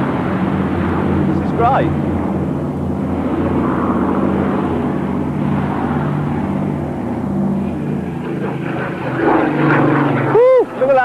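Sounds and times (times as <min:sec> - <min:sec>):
propeller aircraft flying over: 0:00.0 - 0:11.0.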